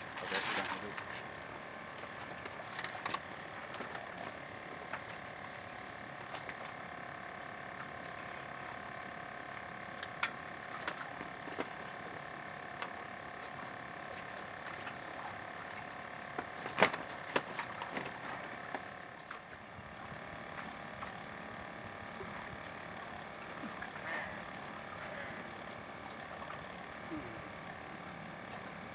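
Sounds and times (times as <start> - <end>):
steady mechanical hum: 0.0 - 28.9.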